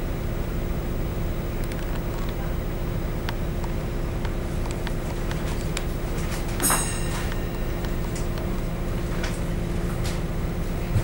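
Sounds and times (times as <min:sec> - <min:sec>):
train humming and rumbling: 0:00.0 - 0:11.0.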